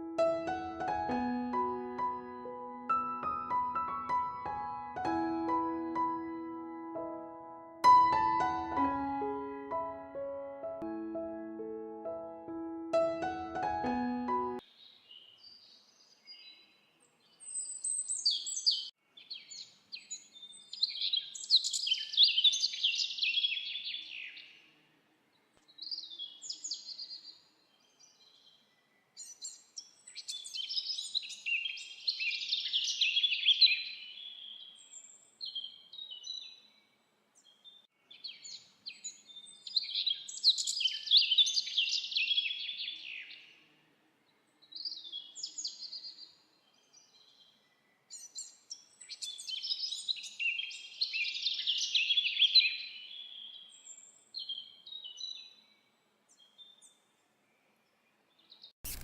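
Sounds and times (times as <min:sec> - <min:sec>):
songbird singing: 0:00.0 - 0:11.5, 0:12.1 - 0:24.7, 0:25.3 - 0:43.6, 0:44.2 - 0:59.0.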